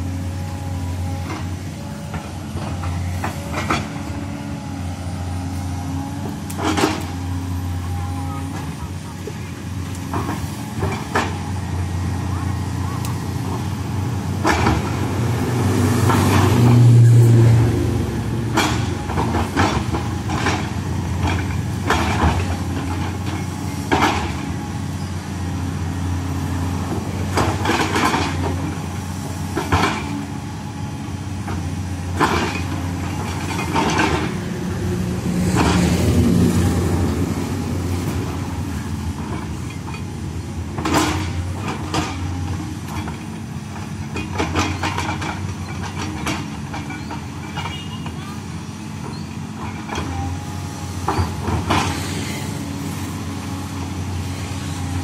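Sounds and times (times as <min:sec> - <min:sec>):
excavator clanks and knocks: 0:00.0 - 0:55.0
excavator diesel engine running: 0:00.0 - 0:55.0.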